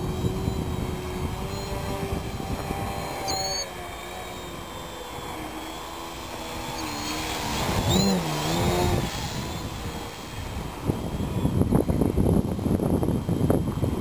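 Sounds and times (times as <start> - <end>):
model plane motor whining: 0.0 - 14.0.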